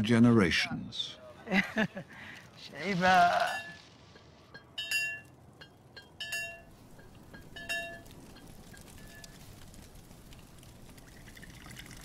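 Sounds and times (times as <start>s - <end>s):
wood fire crackling: 1.2s - 12.0s.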